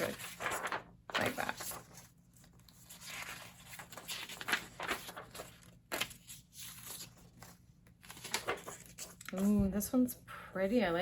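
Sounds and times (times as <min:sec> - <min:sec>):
paper pages rustling and ripping: 0:00.0 - 0:09.6.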